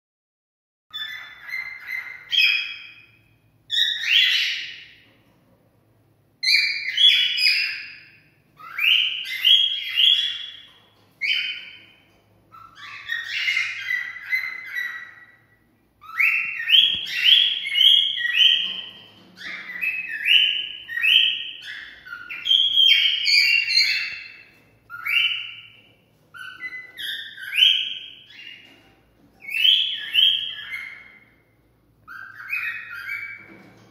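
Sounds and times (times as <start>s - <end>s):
cockatiel whistling song: 0.9s - 5.1s, 6.4s - 28.8s, 29.4s - 33.8s.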